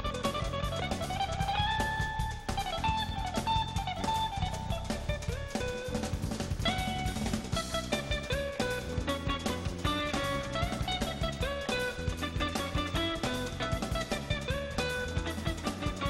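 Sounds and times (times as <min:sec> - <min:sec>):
bass: 0:00.0 - 0:16.0
drum kit: 0:00.0 - 0:16.0
electric guitar lead: 0:00.0 - 0:16.0.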